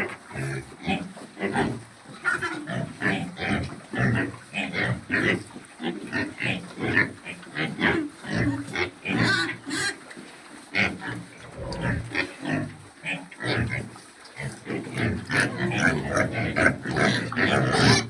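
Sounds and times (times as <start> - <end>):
pigs grunting: 0.0 - 10.0, 10.7 - 18.0.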